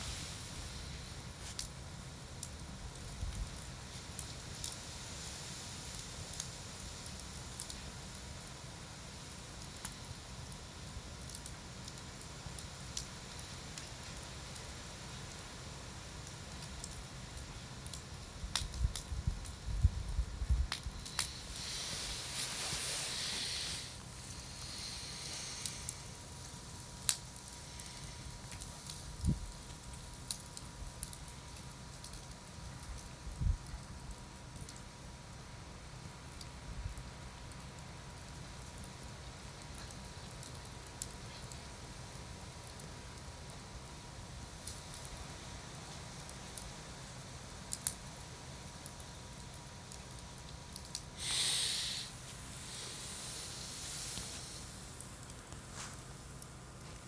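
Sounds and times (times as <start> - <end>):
campfire crackling and popping: 0.0 - 57.0
gas hissing from burning log: 0.0 - 57.0.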